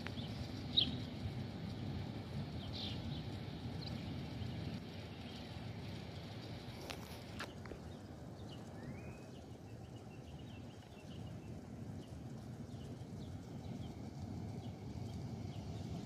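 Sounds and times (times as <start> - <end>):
low outdoor rumble: 0.0 - 16.0
small birds chirping: 0.0 - 16.0.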